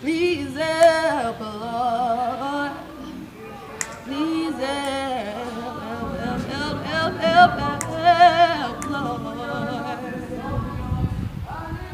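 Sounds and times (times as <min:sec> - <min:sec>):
woman singing a cappella: 0:00.0 - 0:11.9.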